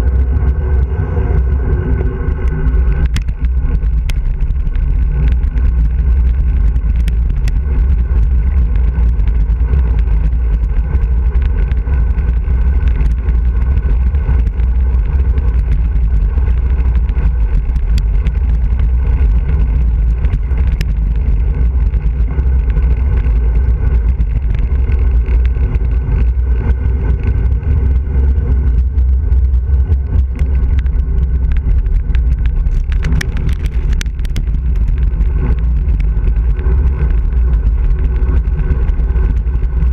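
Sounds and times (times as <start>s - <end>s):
bike clicks and rattles: 0.0s - 39.9s
wind buffeting microphone: 0.0s - 39.9s.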